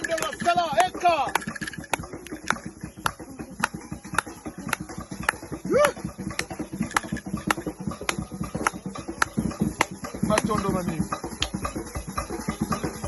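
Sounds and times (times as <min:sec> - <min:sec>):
sharp rhythmic strikes: 0:00.0 - 0:13.0.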